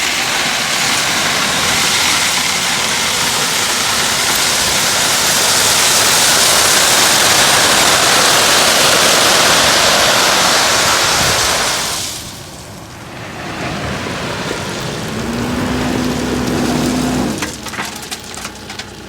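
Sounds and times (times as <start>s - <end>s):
loose rock pouring: 0.0s - 19.0s.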